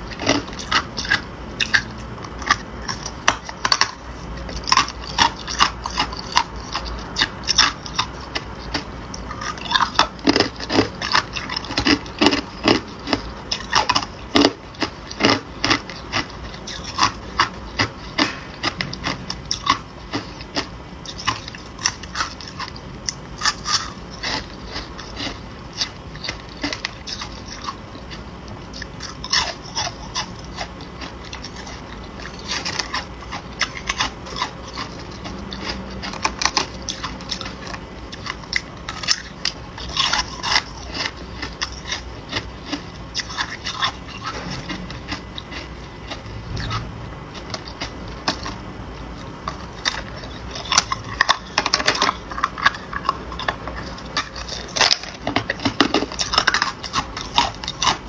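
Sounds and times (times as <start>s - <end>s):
person crunching ice: 0.1s - 22.7s, 23.4s - 27.8s, 29.0s - 46.8s, 49.8s - 58.0s.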